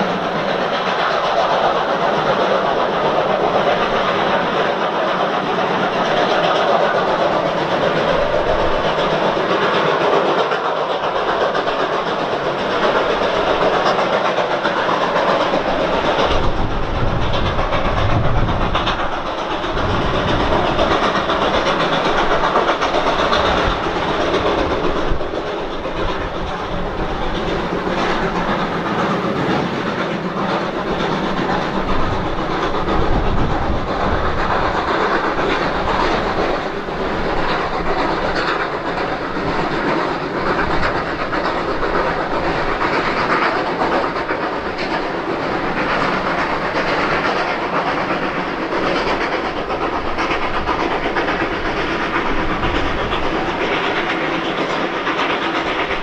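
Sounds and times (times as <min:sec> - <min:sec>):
steam train running: 0:00.0 - 0:56.0.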